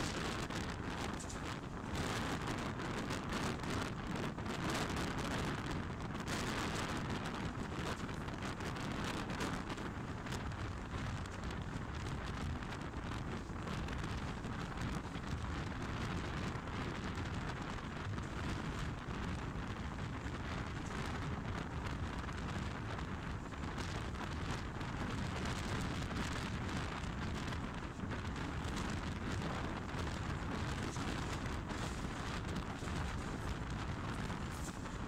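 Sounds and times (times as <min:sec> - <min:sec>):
train running at speed: 0:00.0 - 0:35.0.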